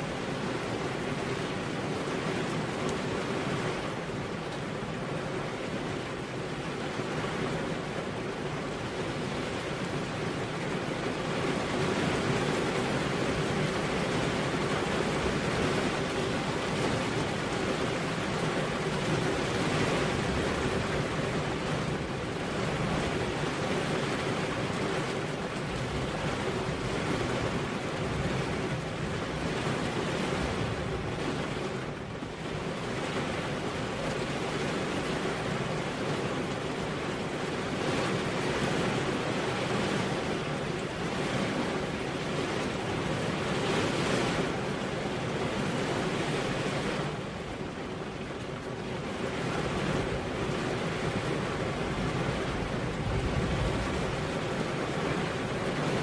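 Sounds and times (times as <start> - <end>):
heavy rain on a road: 0.0 - 56.0.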